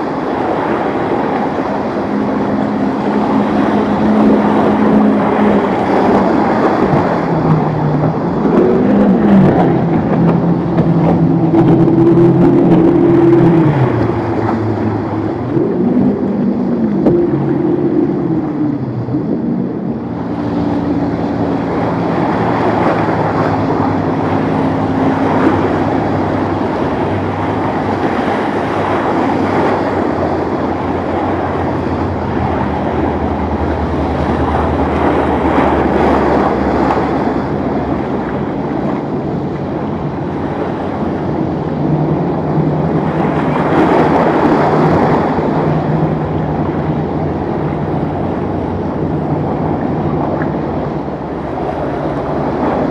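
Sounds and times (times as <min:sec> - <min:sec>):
motorboat engines running: 0:00.0 - 0:52.9
waves and churning water: 0:00.0 - 0:52.9
wind on microphone: 0:00.0 - 0:52.9.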